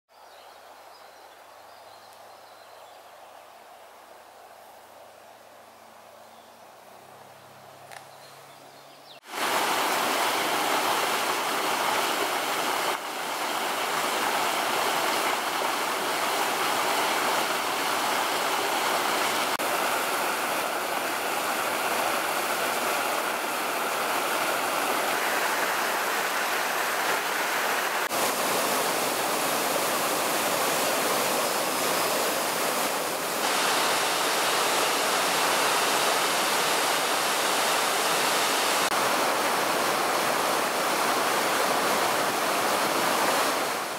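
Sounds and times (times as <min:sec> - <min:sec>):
stream and waterfall rushing: 0:00.2 - 0:43.9.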